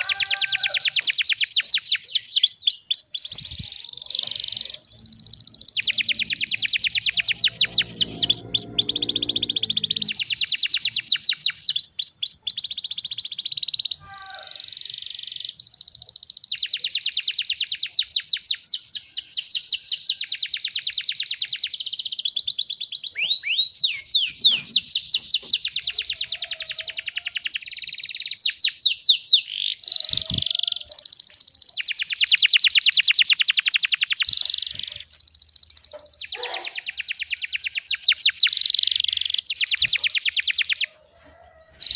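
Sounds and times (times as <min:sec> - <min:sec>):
canary singing rapid trills: 0:00.0 - 0:41.9.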